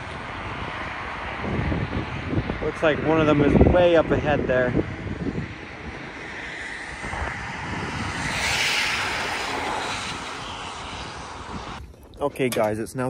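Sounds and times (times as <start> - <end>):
vehicle passing: 0.0 - 11.8.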